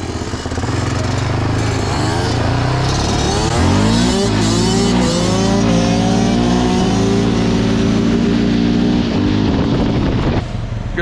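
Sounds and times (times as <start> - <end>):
dirt bike engine running: 0.0 - 10.2
quad engine revving: 0.0 - 10.3.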